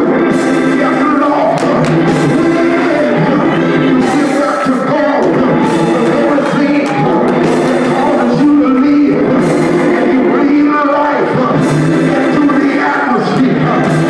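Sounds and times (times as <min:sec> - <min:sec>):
held chords: 0:00.0 - 0:14.0
people singing: 0:00.0 - 0:14.0.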